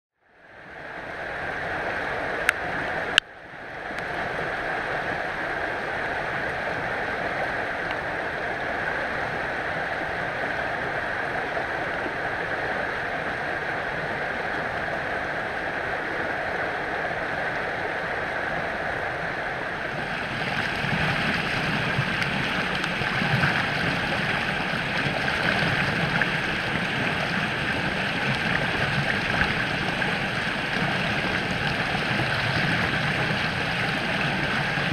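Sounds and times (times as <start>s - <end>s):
creek rushing over rocks: 0.7s - 34.9s.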